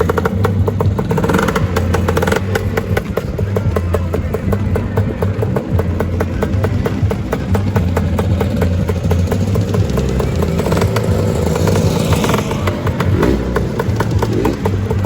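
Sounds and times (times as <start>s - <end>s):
scooter engines running: 0.0s - 15.0s
scooter passing close by: 0.0s - 15.0s.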